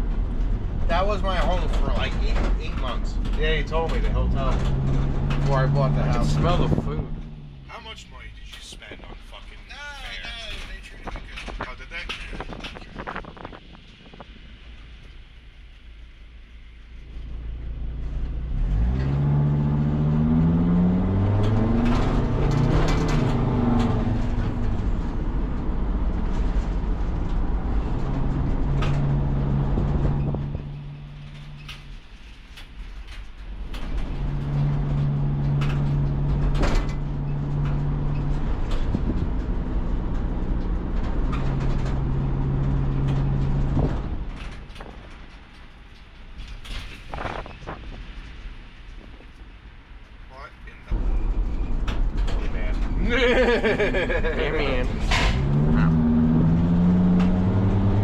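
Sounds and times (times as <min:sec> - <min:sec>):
van engine from inside cab: 0:00.0 - 0:58.0.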